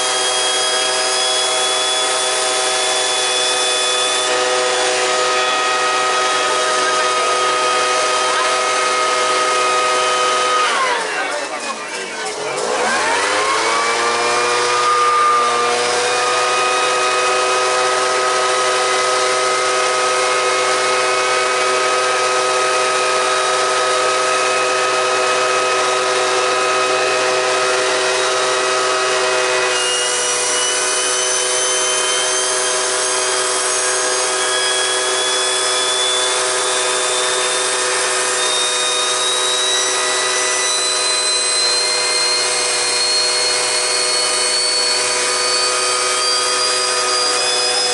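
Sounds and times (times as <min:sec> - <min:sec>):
high whistle rising in pitch: 0:00.0 - 0:11.1, 0:12.8 - 0:47.9
turbocharger whining: 0:00.0 - 0:47.9.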